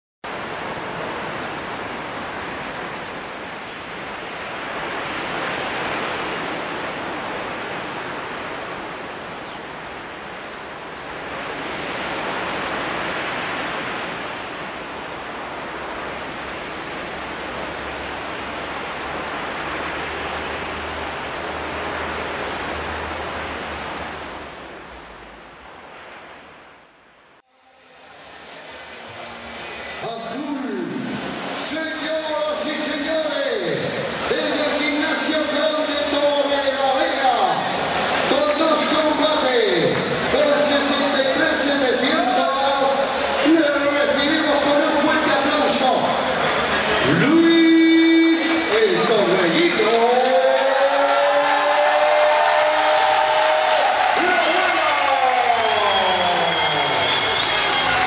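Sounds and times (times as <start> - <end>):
ocean waves washing in: 0.2 - 58.0.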